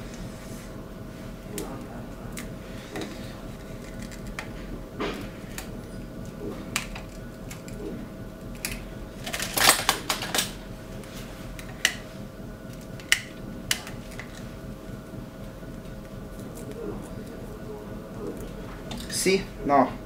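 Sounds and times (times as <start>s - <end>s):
faint machine hum: 0.0s - 20.0s.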